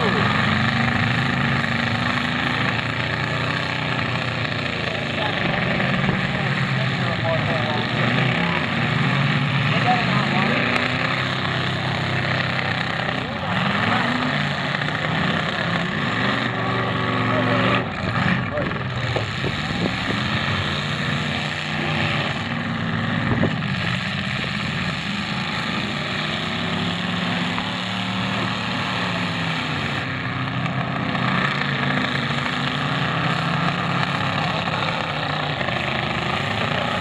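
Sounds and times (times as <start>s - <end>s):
car engines revving unevenly: 0.0s - 37.0s.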